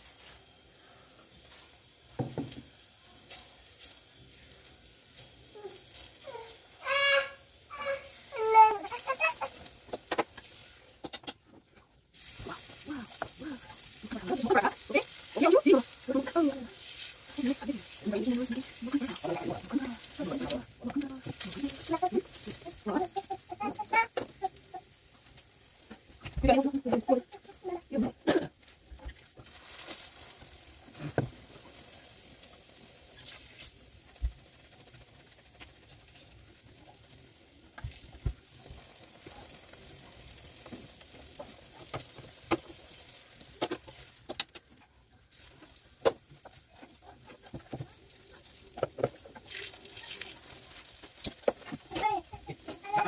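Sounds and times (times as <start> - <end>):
flatbread sizzling on a griddle: 0.0 - 53.0.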